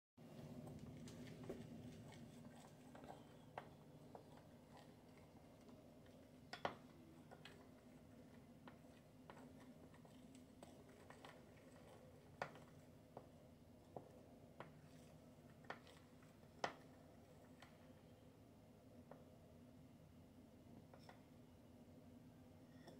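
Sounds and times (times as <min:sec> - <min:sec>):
faint steady hum: 0:00.2 - 0:22.9.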